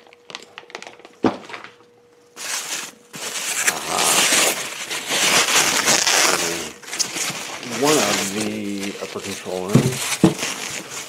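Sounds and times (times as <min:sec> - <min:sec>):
packing wrap rustling and crinkling: 0:00.0 - 0:01.7, 0:02.4 - 0:11.0.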